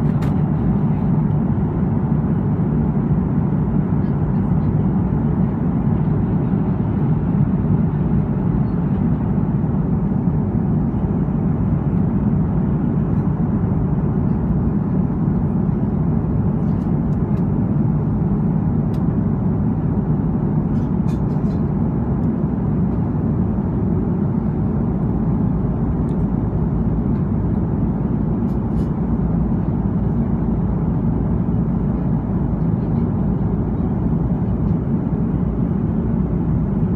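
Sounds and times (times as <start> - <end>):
airflow over fuselage: 0.0 - 36.9
jet engine rumble: 0.0 - 36.9.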